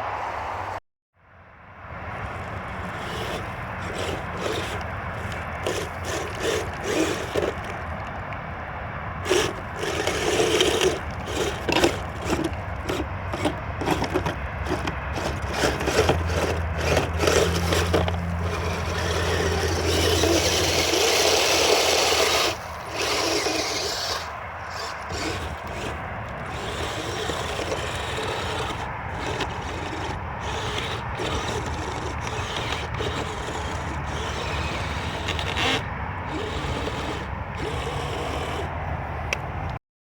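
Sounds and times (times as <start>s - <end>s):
toy snowcat motors and tracks: 1.8s - 39.8s.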